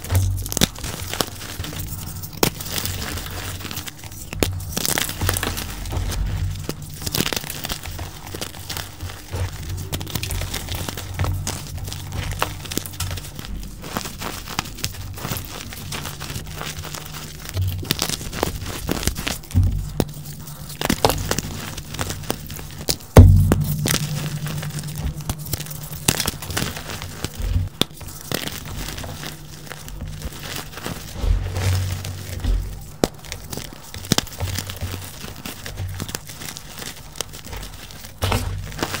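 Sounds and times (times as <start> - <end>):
chalk blocks crunching: 0.0 - 39.0.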